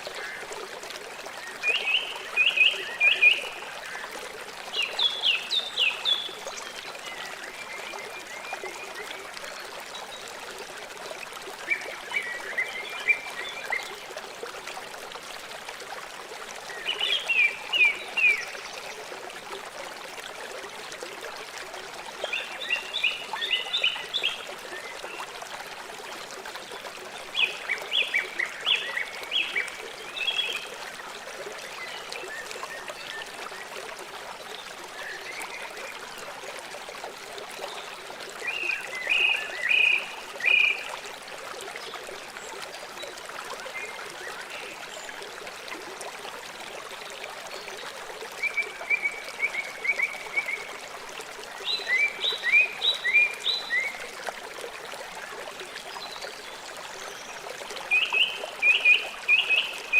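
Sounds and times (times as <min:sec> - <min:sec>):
river running: 0:00.0 - 0:59.9.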